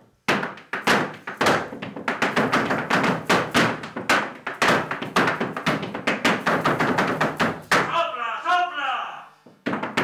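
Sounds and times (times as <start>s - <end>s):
rapid knocks and thuds: 0.3s - 7.9s, 9.5s - 10.0s.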